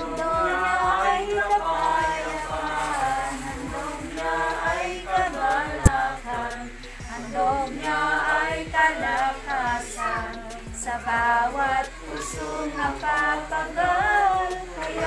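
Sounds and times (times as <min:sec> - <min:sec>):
group singing a hymn: 0:00.0 - 0:15.0.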